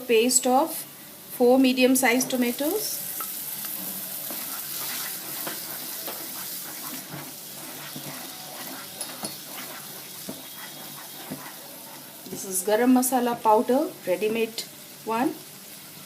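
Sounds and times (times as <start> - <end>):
paste sizzling in oil: 0.3 - 16.0.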